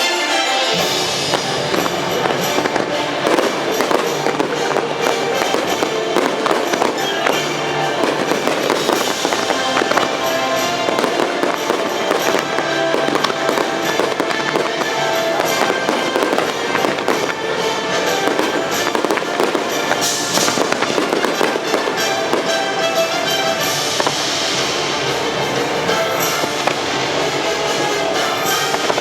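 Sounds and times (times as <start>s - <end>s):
fireworks bursting and crackling: 0.0s - 29.0s
music over loudspeakers: 0.0s - 29.0s.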